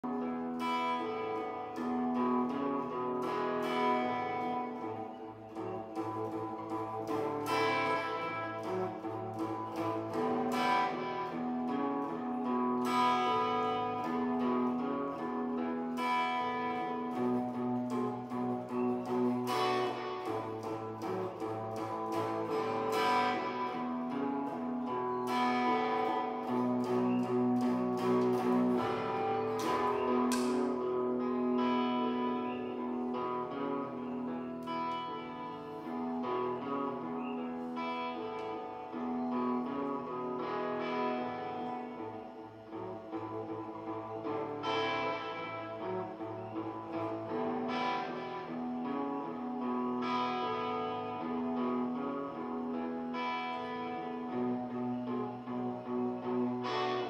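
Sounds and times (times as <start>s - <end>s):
blues guitar playing: 0.0s - 57.0s.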